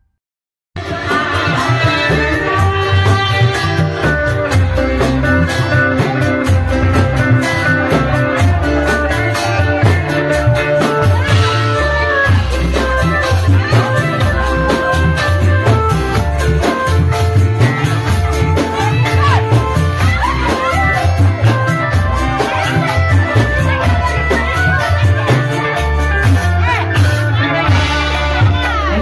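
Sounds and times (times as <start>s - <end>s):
amplified live band music: 0.8s - 29.0s
steady drum beat: 0.8s - 29.0s.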